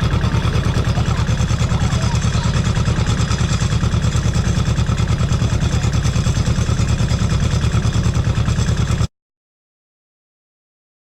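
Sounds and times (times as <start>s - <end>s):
engine running with pulsing beat: 0.0s - 9.1s.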